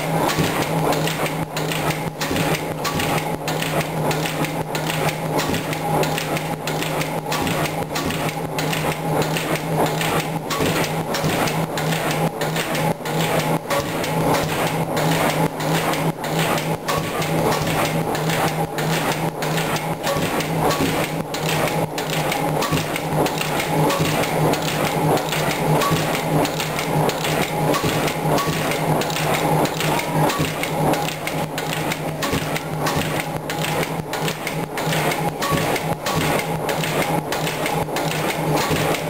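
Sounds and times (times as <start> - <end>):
compressor engine knocking: 0.0 - 39.0.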